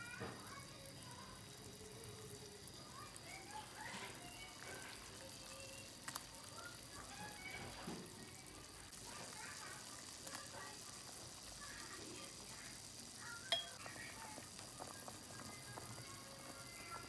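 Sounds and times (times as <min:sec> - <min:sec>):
broth bubbling in a pot: 0:00.0 - 0:17.0.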